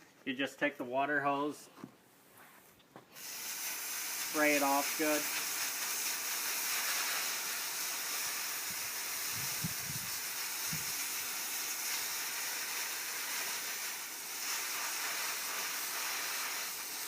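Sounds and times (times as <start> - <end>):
water hose spraying: 3.1 - 17.0.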